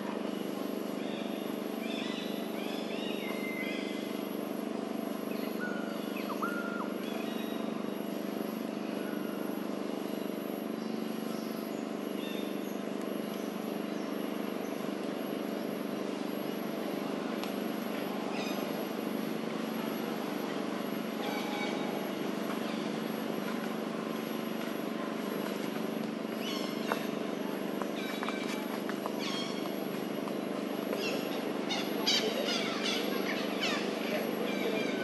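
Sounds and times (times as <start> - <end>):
steady low engine hum: 0.0 - 35.0.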